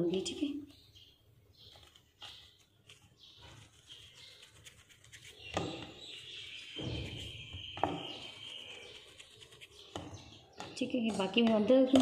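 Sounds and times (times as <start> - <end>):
hands working dough on board: 1.7 - 12.0.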